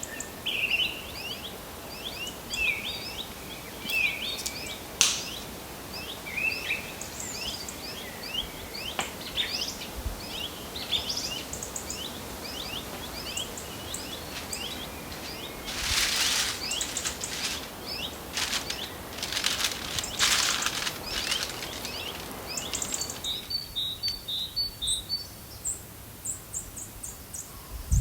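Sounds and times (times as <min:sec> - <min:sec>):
birds chirping: 0:00.5 - 0:25.8.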